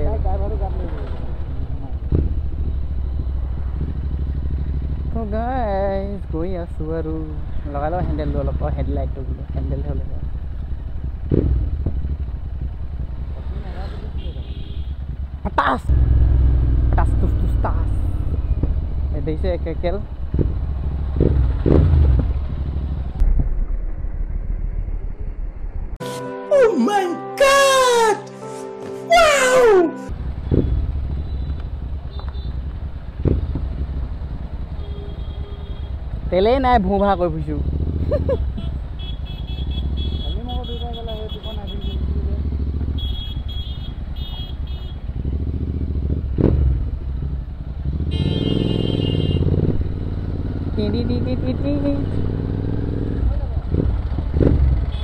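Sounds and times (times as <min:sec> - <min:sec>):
motorcycle engine running: 0:00.0 - 0:23.3, 0:30.1 - 0:55.0
road noise: 0:00.0 - 0:26.0, 0:29.1 - 0:55.0.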